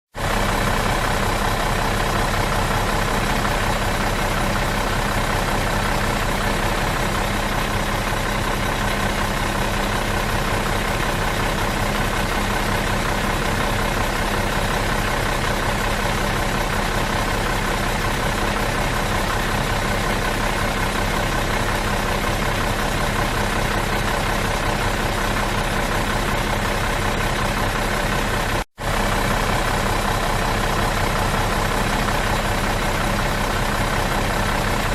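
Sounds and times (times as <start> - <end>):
bus engine idling: 0.1 - 34.9.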